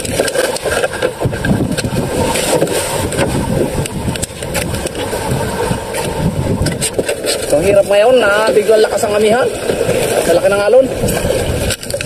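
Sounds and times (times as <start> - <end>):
waves splashing against boat hull: 0.0 - 12.0
wind buffeting microphone: 0.0 - 12.0.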